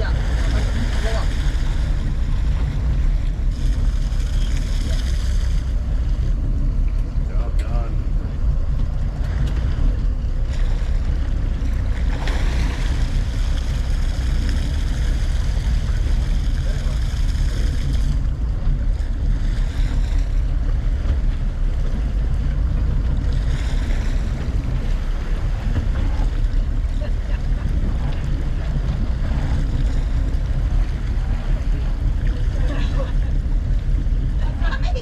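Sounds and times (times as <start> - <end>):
boat engine running: 0.0 - 35.0
water rushing along hull: 0.0 - 35.0
wind on microphone: 0.0 - 35.0.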